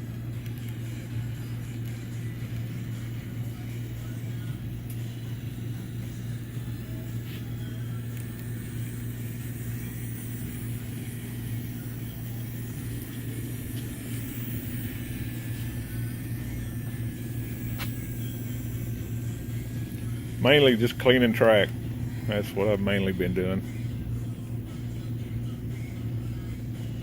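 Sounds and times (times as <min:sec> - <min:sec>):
faint high motor whine: 0:00.0 - 0:27.0
low hum: 0:00.0 - 0:27.0.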